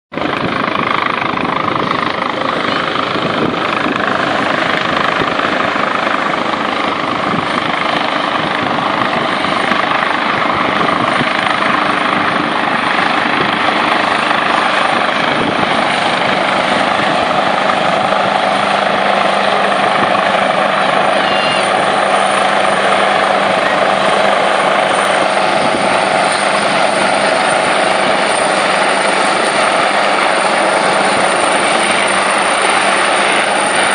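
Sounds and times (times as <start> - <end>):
helicopter hovering: 0.1 - 33.9.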